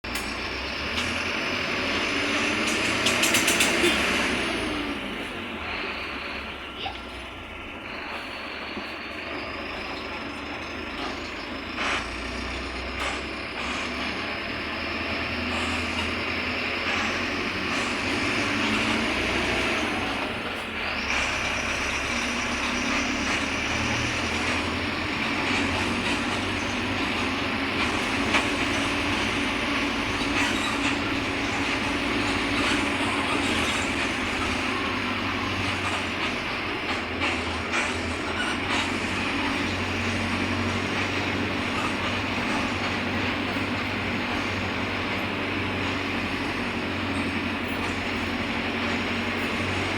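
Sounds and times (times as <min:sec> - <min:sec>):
bus diesel engine running: 0:00.0 - 0:49.9
road and body noise: 0:00.0 - 0:49.9.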